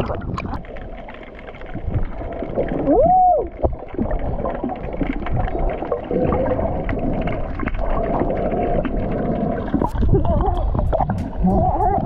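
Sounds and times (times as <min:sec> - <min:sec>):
small clicks and bubbling: 0:00.0 - 0:12.0
underwater rush of water: 0:00.0 - 0:12.0.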